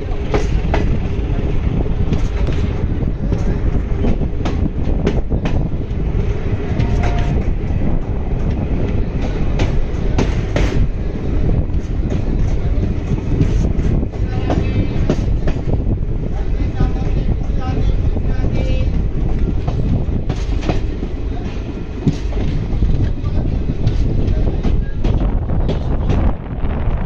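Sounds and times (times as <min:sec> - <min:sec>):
wheels clanking over rail joints: 0:00.0 - 0:17.4, 0:18.0 - 0:26.4
train rumbling on track: 0:00.0 - 0:27.0.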